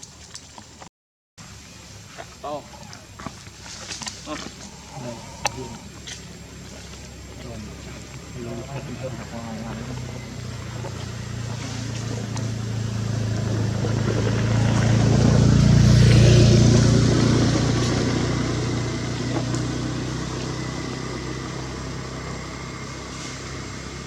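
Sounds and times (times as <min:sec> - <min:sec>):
vehicle passing by: 0:03.2 - 0:24.0.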